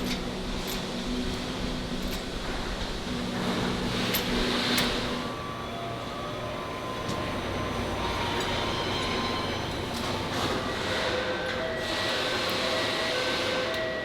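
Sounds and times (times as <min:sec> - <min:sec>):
factory machinery rumbling: 0:00.0 - 0:14.0.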